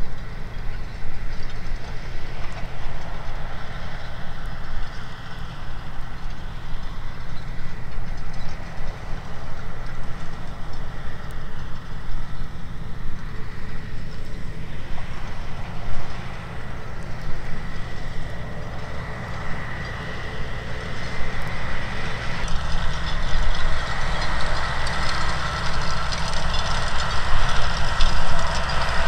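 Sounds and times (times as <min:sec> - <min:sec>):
disc harrow rumbling and rattling: 0:00.0 - 0:29.0
tractor engine running: 0:00.0 - 0:29.0.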